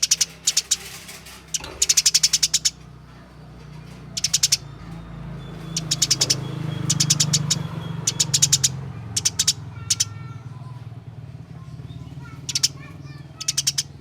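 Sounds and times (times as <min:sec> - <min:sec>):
sparrow chirping rapidly: 0:00.0 - 0:03.0, 0:04.0 - 0:10.7, 0:11.6 - 0:14.0.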